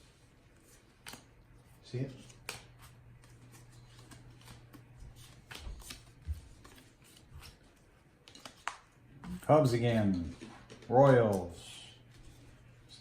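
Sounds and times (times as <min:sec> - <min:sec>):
cards being flipped through: 0:00.6 - 0:11.5.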